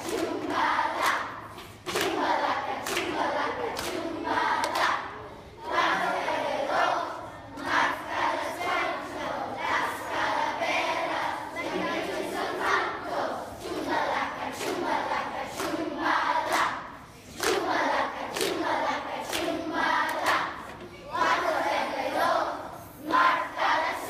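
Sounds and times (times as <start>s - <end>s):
children singing together: 0.0s - 24.0s.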